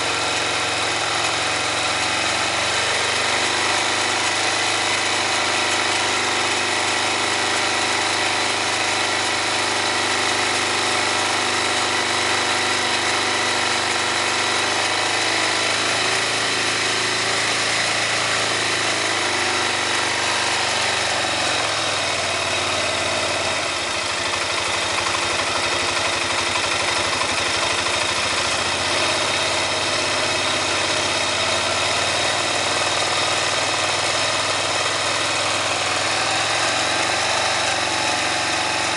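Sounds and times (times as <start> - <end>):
atv engine idling: 0.0 - 38.9.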